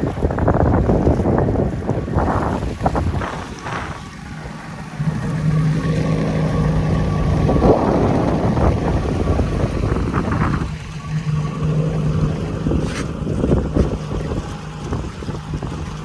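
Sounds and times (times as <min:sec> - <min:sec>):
motorboat engine humming: 0:00.0 - 0:16.0
rushing wind: 0:00.0 - 0:16.0
water noise: 0:00.0 - 0:16.0.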